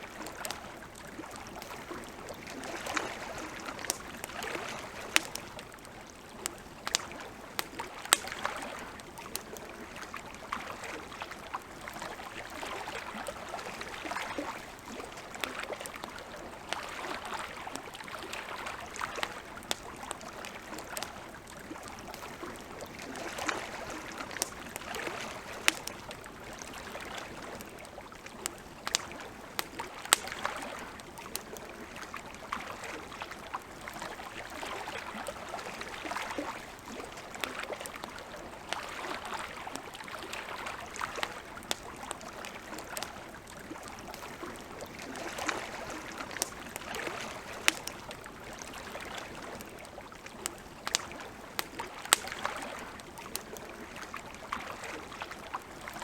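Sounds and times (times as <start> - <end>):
campfire crackling and popping: 0.0 - 56.0
lake water lapping: 0.0 - 56.0.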